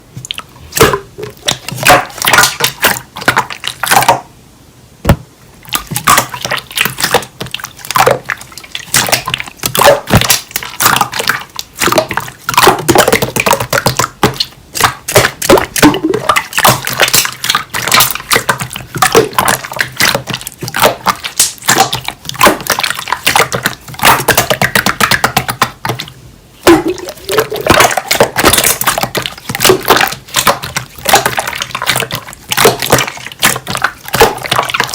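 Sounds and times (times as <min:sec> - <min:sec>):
hands squishing slime: 0:00.0 - 0:04.3, 0:05.1 - 0:34.9.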